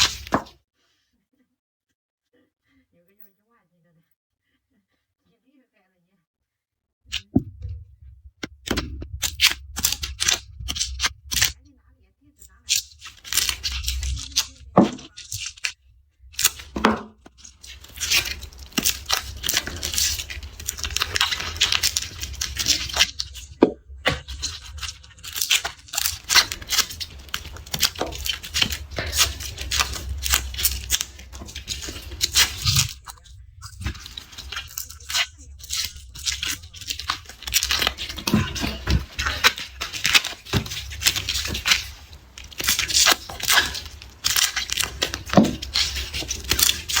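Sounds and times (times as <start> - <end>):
garlic skins crackling: 0.0 - 0.5, 8.6 - 11.6, 12.5 - 47.0.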